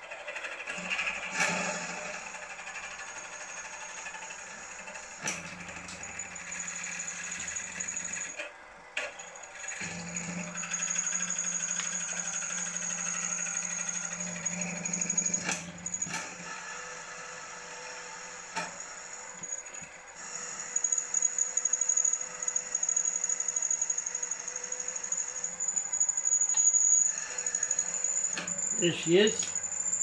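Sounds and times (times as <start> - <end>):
drill bit cutting metal: 0.7 - 8.4, 9.1 - 30.0
milling machine spindle whine: 0.7 - 30.0.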